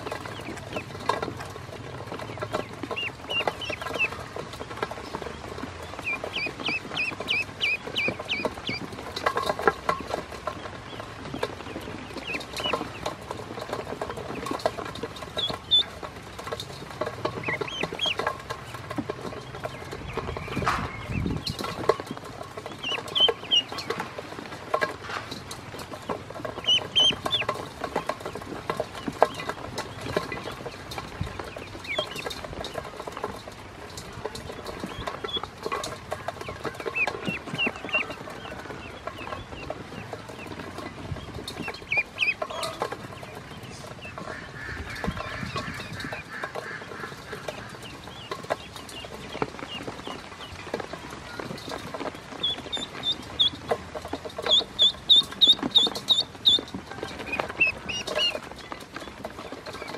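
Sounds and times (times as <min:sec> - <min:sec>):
bills pecking metal bowl: 0:00.0 - 0:59.9
ducklings peeping: 0:00.0 - 0:59.9.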